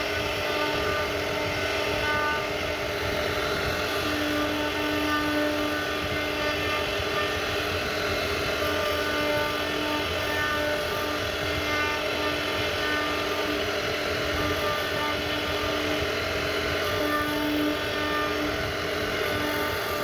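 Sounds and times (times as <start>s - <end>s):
router spindle whine: 0.0s - 20.0s
wood cutting noise: 0.0s - 20.0s.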